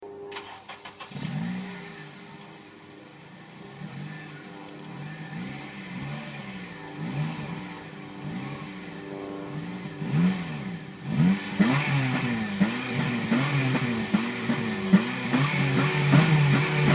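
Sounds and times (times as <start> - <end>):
car engine revving: 0.3 - 16.9.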